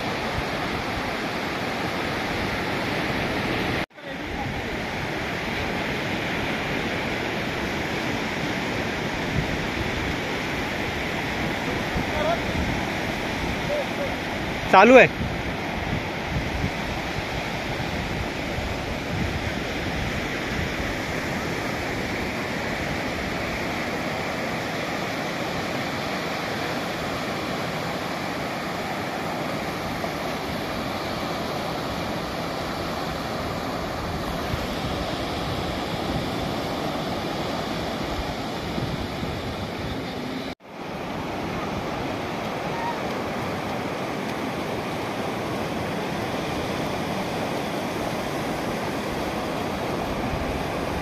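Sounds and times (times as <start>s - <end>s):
surf washing onto beach: 0.0s - 51.0s
wind on microphone: 0.0s - 51.0s.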